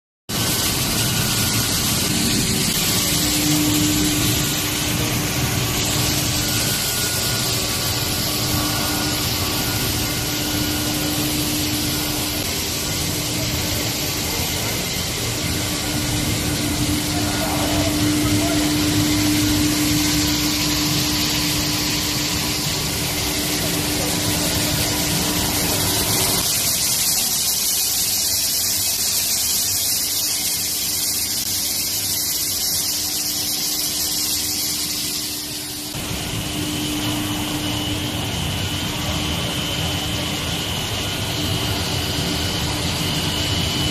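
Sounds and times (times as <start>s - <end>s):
water spraying: 0.3s - 43.4s
high hiss: 0.3s - 43.9s
machinery humming: 0.3s - 43.9s.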